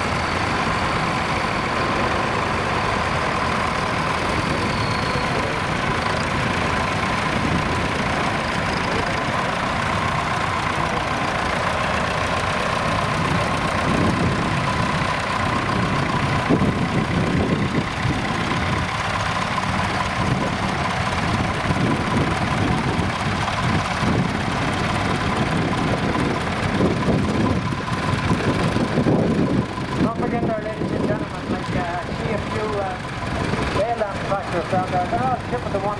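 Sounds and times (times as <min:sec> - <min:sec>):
tractor engines idling: 0:00.0 - 0:35.9.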